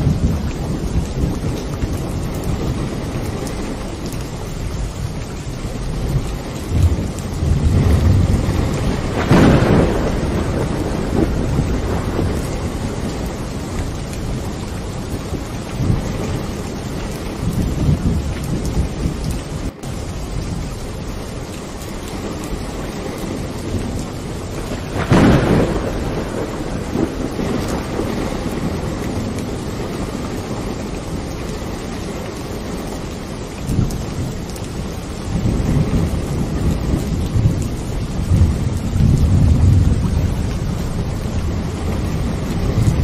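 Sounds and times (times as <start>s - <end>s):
rolling thunder: 0.0s - 32.8s, 33.4s - 43.0s
steady rain: 0.0s - 43.0s.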